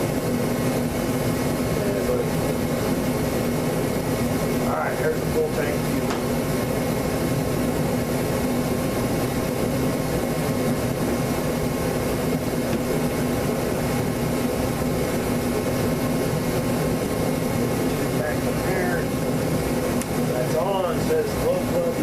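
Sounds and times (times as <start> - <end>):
small engine running steadily: 0.0 - 22.0.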